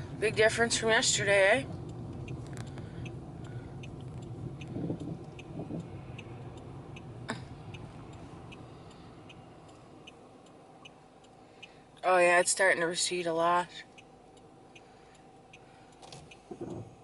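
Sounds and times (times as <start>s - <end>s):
car engine and road rumble: 0.0s - 17.0s
turn signal ticking: 0.0s - 17.0s.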